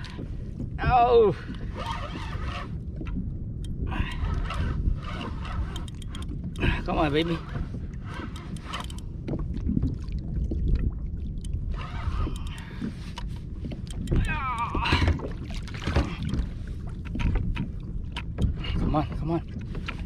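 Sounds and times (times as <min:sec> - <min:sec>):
water sloshing against kayak hull: 0:00.0 - 0:20.0
wind on microphone: 0:00.0 - 0:20.0.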